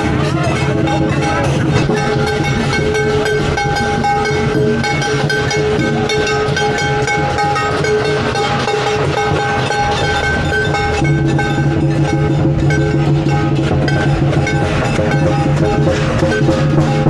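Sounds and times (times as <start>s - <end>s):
drums and cymbals clattering: 0.0s - 17.0s
horns holding long notes: 0.0s - 17.0s.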